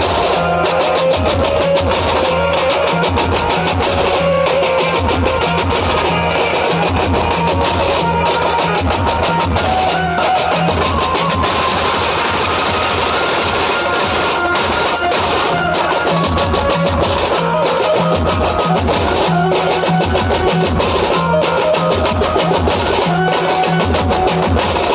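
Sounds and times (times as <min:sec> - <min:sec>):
steady drum beat: 0:00.0 - 0:24.9.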